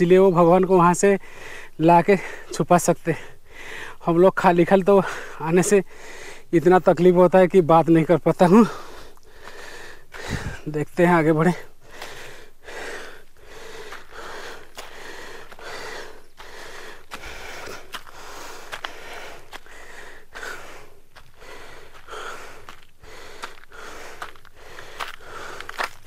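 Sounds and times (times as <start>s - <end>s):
man panting heavily: 1.1s - 4.0s, 5.0s - 6.5s, 8.5s - 10.8s, 11.6s - 26.0s.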